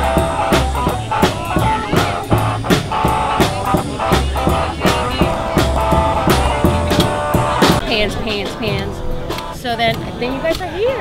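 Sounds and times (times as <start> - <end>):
band music: 0.0 - 11.0
steady drum beat: 0.0 - 11.0.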